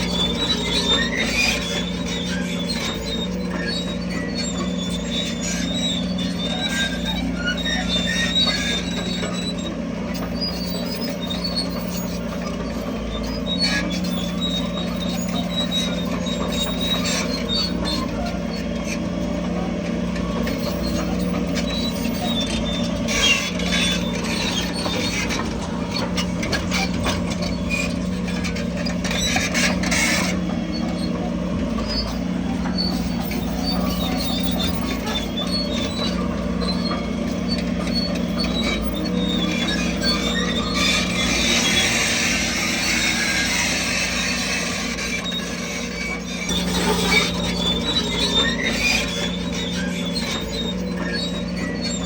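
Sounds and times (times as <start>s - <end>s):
bulldozer diesel engine running: 0.0s - 52.0s
high machine squeaks: 0.0s - 52.0s.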